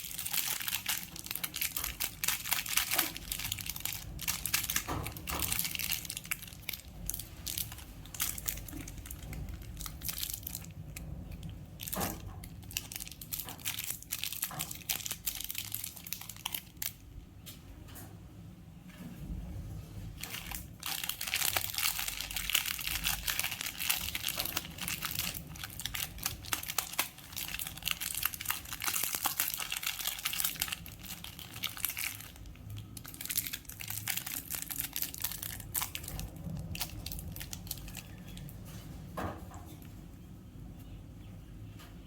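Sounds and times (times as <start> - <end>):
plastic candy wrappers crinkling: 0.0 - 17.0, 20.2 - 38.7.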